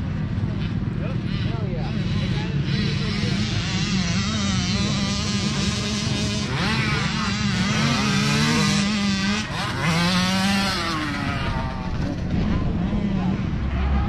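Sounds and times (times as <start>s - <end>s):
motocross bikes revving: 0.0s - 14.0s.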